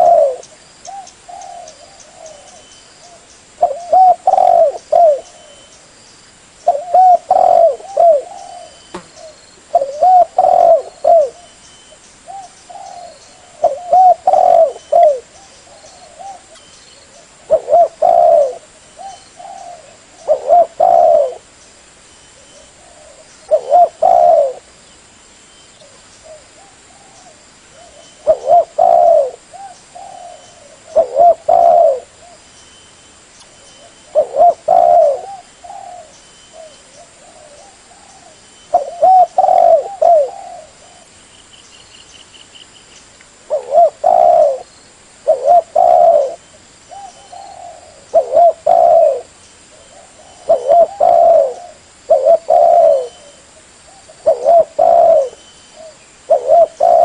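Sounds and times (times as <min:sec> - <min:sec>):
dove cooing: 0:00.0 - 0:05.7, 0:06.6 - 0:11.6, 0:12.3 - 0:21.5, 0:22.4 - 0:24.7, 0:25.8 - 0:32.5, 0:33.8 - 0:41.1, 0:43.5 - 0:57.0.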